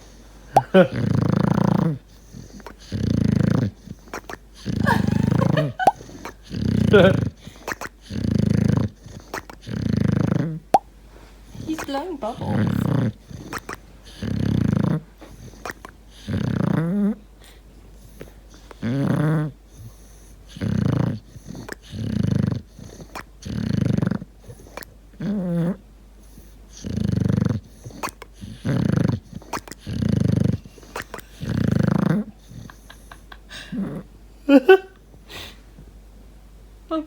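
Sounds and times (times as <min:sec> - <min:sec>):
dog snoring loudly: 0:00.0 - 0:10.8, 0:11.6 - 0:33.1, 0:33.7 - 0:34.1.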